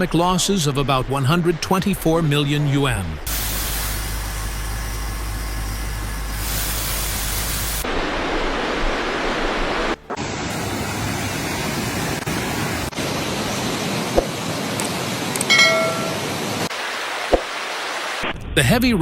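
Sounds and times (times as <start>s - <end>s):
rushing floodwater: 0.0s - 18.2s.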